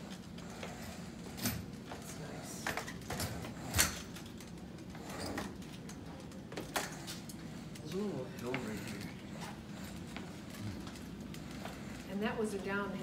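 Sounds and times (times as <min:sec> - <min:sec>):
walker clicking and knocking on floor: 0:00.0 - 0:13.0.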